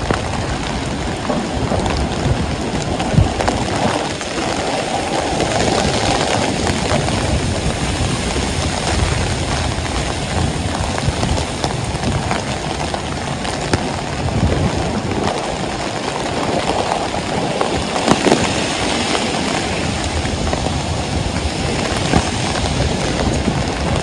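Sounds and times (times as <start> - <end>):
heavy rain pouring: 0.0 - 24.0
raindrops tapping: 0.0 - 24.0.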